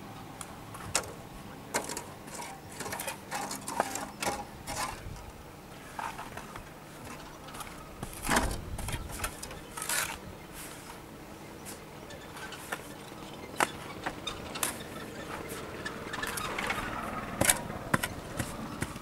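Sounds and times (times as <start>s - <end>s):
shovels scraping in sand: 1.7s - 19.0s.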